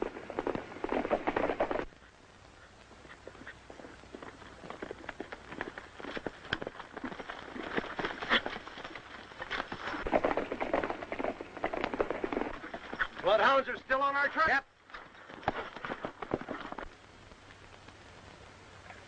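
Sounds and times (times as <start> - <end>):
horses galloping hoofbeats: 0.0 - 19.0.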